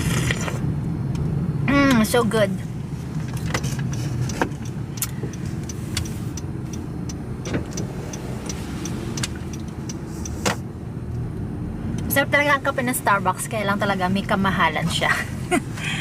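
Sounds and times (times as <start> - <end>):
car interior low rumble: 0.0 - 16.0.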